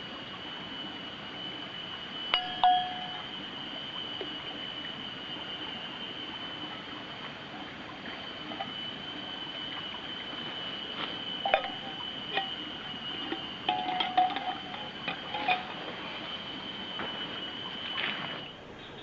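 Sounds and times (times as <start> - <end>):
high-pitched whine: 0.0 - 19.0.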